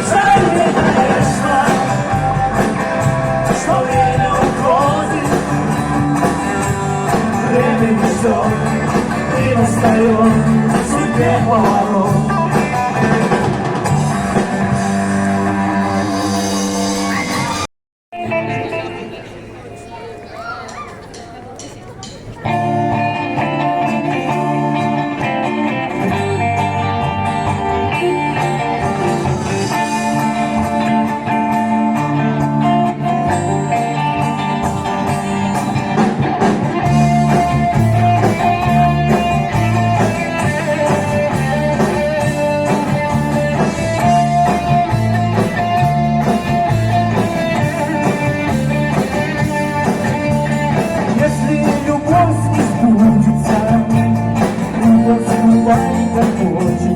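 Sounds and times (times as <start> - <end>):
electric guitar: 0.0 - 17.6, 18.2 - 19.8, 22.4 - 56.9
drums: 0.0 - 56.9.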